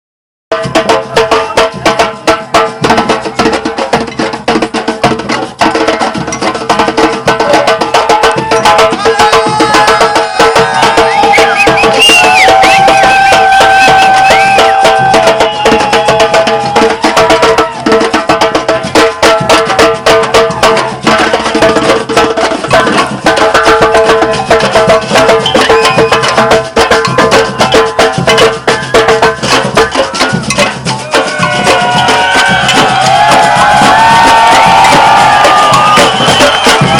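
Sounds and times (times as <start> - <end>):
samba drumming: 0.5 - 36.9.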